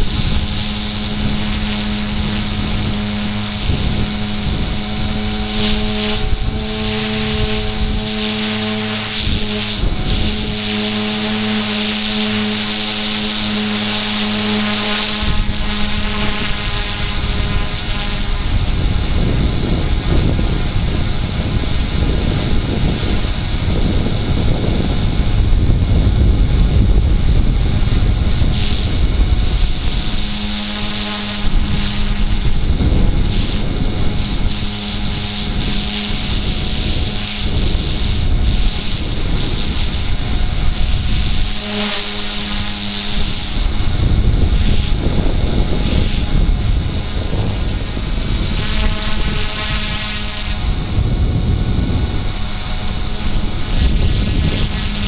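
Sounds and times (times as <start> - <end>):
high-pitched motor whine: 0.0 - 55.0
low hum: 0.0 - 55.0
rotor blades rushing: 0.0 - 55.0.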